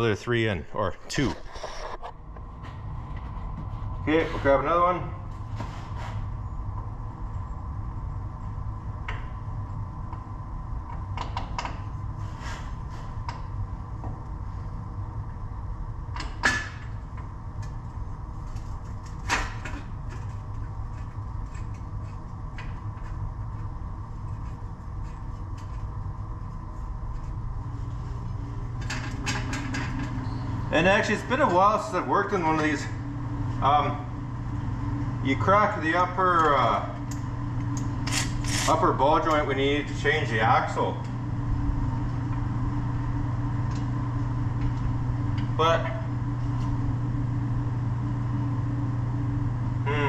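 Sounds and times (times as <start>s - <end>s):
low shop hum: 0.0s - 50.0s.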